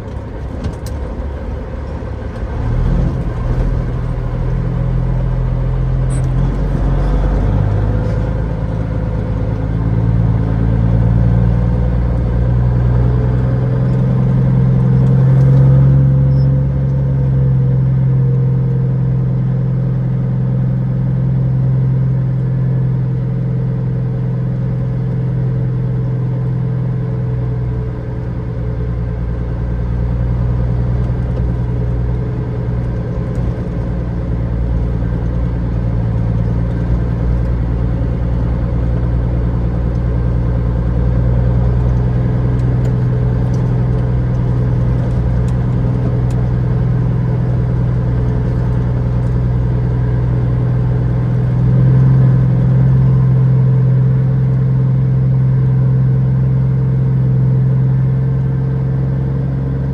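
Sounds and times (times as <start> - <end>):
diesel truck engine at low revs: 0.0 - 59.9.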